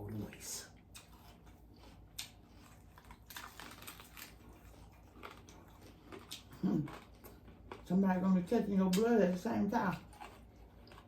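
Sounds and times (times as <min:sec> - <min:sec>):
person chewing crispy food: 0:00.1 - 0:11.0.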